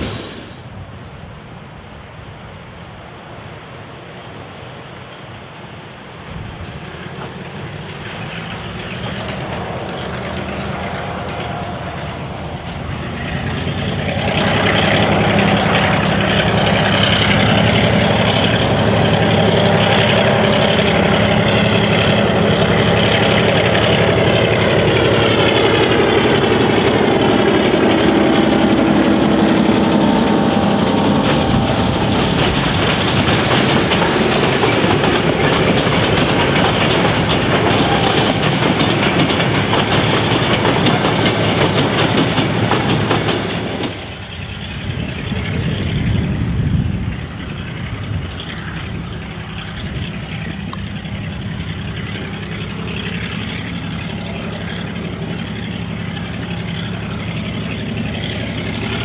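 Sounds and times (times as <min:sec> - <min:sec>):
diesel locomotive engine: 0:00.0 - 0:59.0
train wheels clicking over rail joints: 0:06.1 - 0:59.0.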